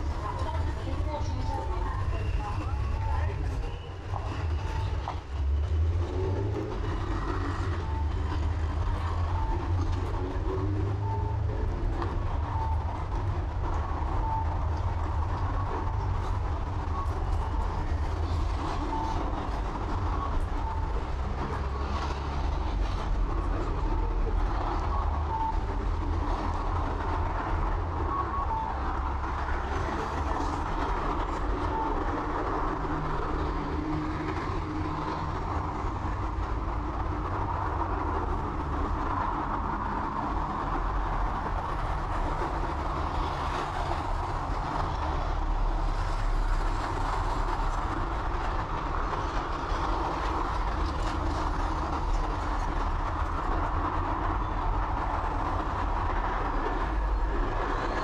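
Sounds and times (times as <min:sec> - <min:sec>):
train wheels on rails rumbling: 0:00.0 - 0:58.0.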